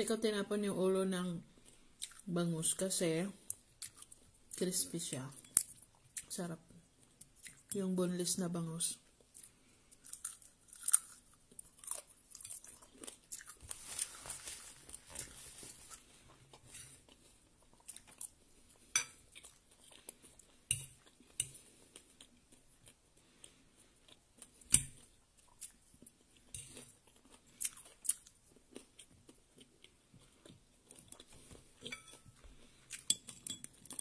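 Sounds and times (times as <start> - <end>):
chewing and crunching food: 1.5 - 2.8, 3.4 - 7.9, 9.0 - 34.0.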